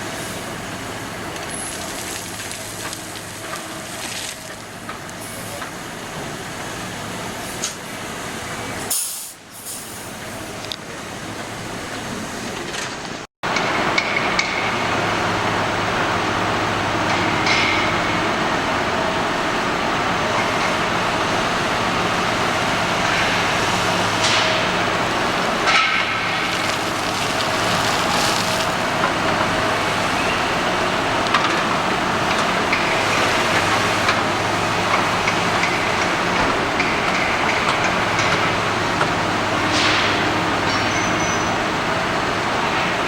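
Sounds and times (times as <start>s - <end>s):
heavy machinery engine hum: 0.0s - 43.0s.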